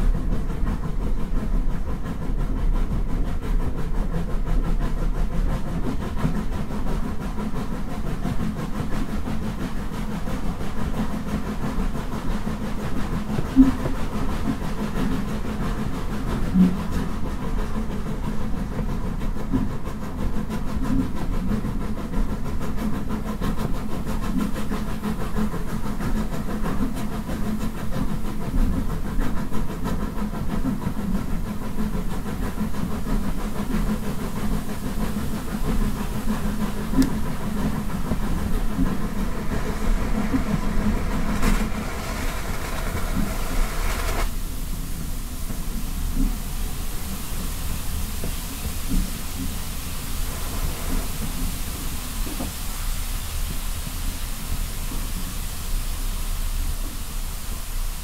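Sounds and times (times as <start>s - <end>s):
steam train rumbling: 0.0s - 58.0s.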